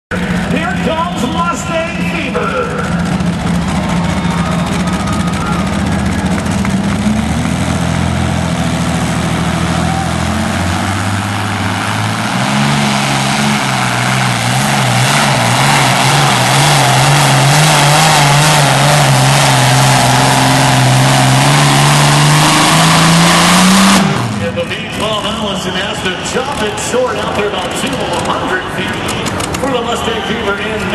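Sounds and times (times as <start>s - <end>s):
tractor engine running under load: 0.1s - 30.9s.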